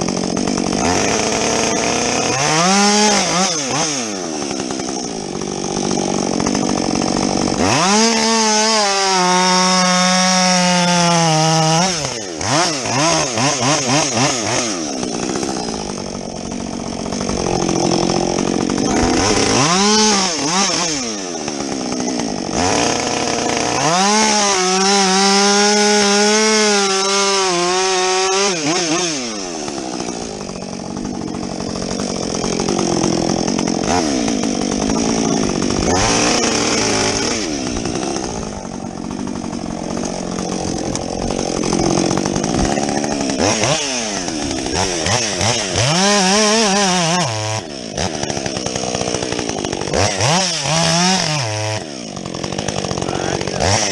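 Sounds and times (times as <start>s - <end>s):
chainsaw cutting through log: 0.0s - 53.9s.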